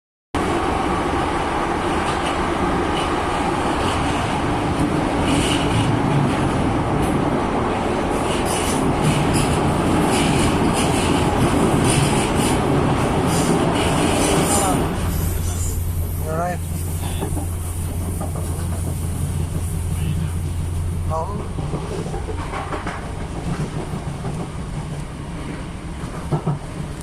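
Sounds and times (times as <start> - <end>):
train running noise from inside: 0.4 - 27.0.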